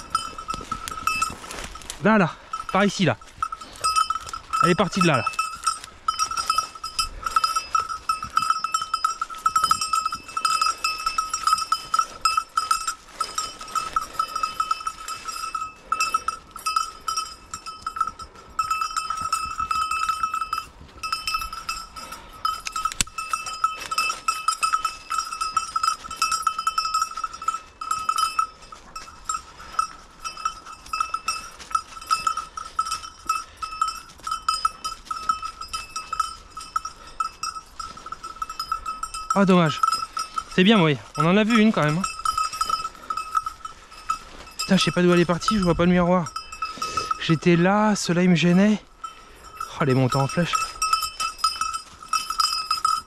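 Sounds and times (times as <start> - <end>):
dog collar bell jangling: 0.0 - 53.0.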